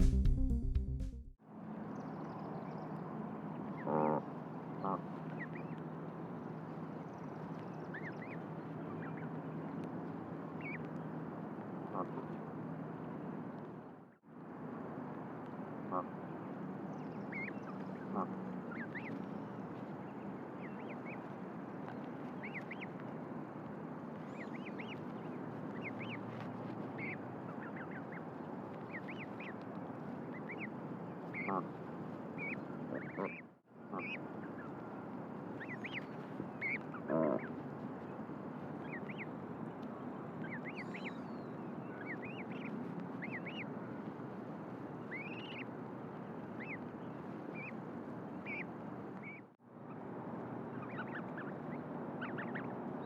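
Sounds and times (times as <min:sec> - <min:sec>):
duckling peeping: 0:02.0 - 0:13.7, 0:15.3 - 0:53.0.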